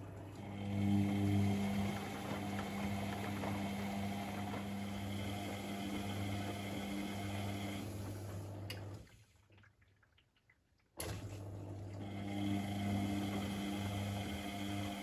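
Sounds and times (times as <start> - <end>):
washing machine motor humming: 0.0 - 9.0, 11.0 - 15.0.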